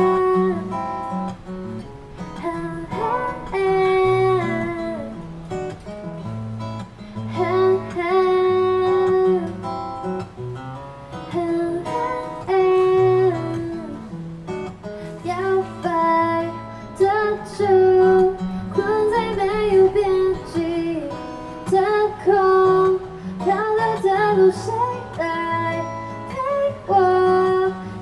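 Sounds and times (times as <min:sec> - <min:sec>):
woman singing: 0:00.0 - 0:01.3, 0:02.2 - 0:05.2, 0:07.2 - 0:10.0, 0:11.1 - 0:14.2, 0:14.9 - 0:28.0
strummed acoustic guitar: 0:00.0 - 0:28.0.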